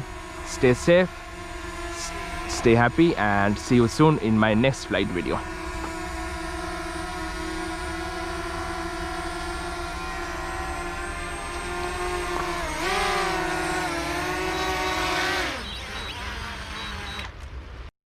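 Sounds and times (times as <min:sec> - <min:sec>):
drone propellers whining: 0:00.0 - 0:17.4.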